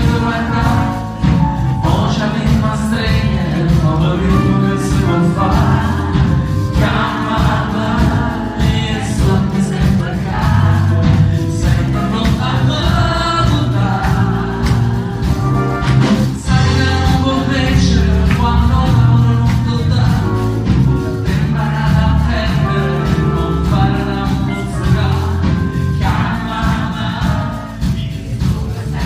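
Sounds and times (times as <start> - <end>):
bass guitar: 0.0 - 29.0
drums: 0.0 - 29.0
man singing: 0.0 - 29.0.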